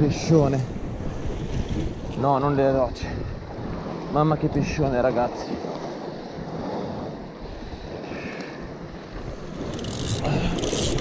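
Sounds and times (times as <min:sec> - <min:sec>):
waves washing against rocks: 0:00.0 - 0:11.0
wind buffeting microphone: 0:00.0 - 0:11.0.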